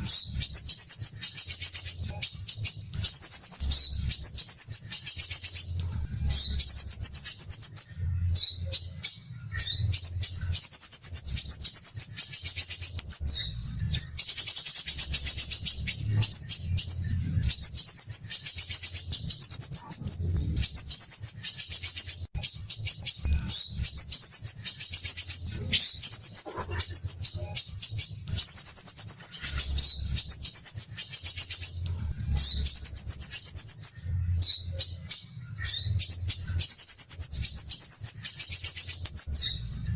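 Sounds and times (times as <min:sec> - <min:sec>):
bird chattering trill: 0:00.0 - 0:39.7.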